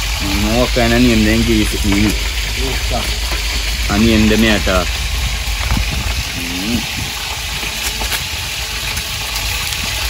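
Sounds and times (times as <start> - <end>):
low rumble: 0.0 - 8.8
food sizzling in hot oil: 0.0 - 10.0.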